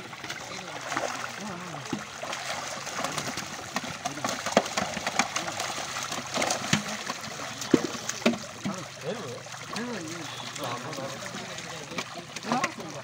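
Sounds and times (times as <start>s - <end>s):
fish splashing in net: 0.0s - 13.0s.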